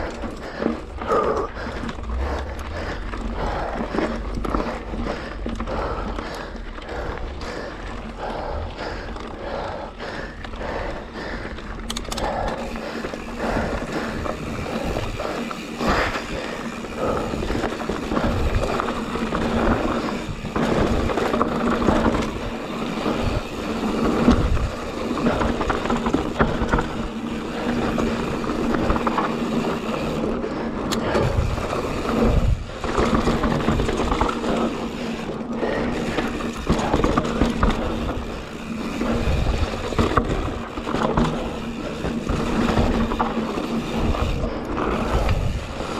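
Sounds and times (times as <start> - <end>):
bike rattling and knocking: 0.0 - 45.9
tyres rolling over dirt: 0.0 - 45.9.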